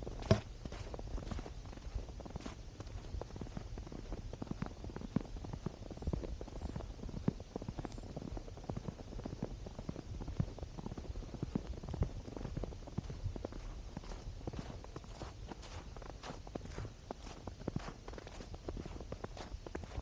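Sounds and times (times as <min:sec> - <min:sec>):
footsteps crunching on snow trail: 0:00.0 - 0:20.0
low rumble on microphone: 0:00.0 - 0:20.0.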